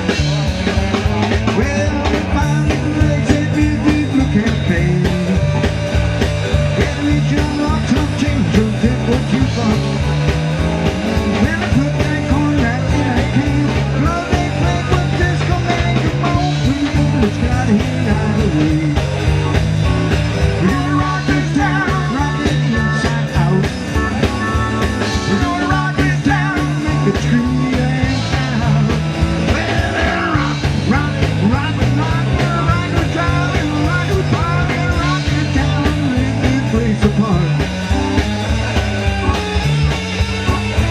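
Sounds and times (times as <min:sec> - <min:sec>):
bass line: 0:00.0 - 0:40.9
live rock band playing: 0:00.0 - 0:40.9
person singing: 0:01.2 - 0:05.6, 0:06.5 - 0:10.3, 0:11.3 - 0:19.4, 0:20.6 - 0:37.7.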